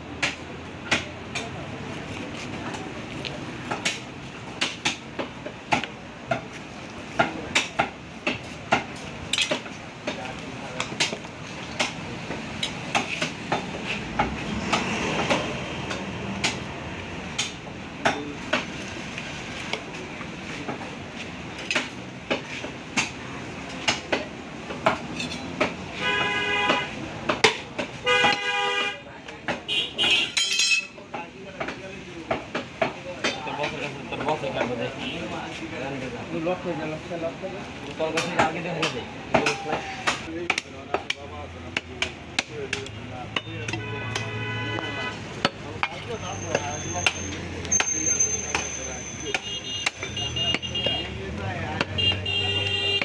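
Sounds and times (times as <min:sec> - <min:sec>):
background bustle: 0:00.0 - 0:53.0.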